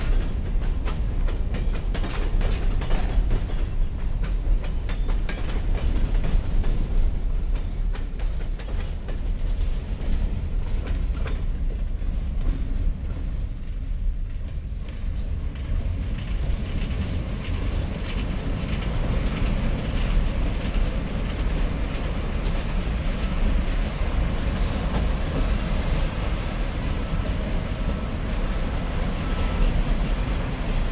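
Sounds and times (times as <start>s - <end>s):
freight train cars rolling past: 0.0s - 30.9s
wind rumble on microphone: 0.0s - 30.9s.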